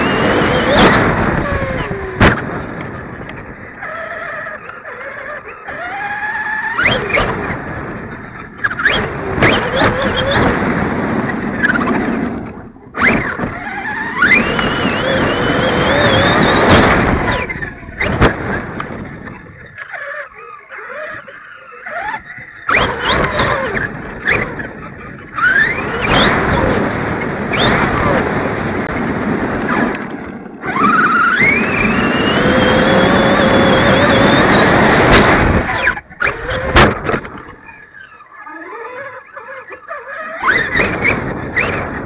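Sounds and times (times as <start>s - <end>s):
electric motor whining: 0.0s - 42.0s
tyre and wind noise: 0.0s - 42.0s.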